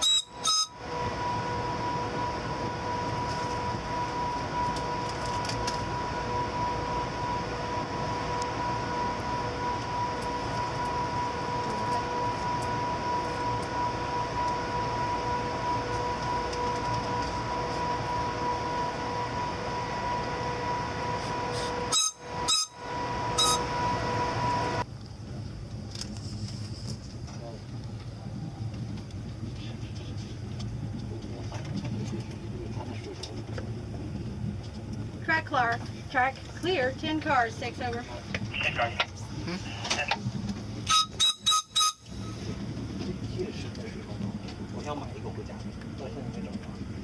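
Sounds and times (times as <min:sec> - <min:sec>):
train rumbling slowly: 0:00.0 - 0:47.0.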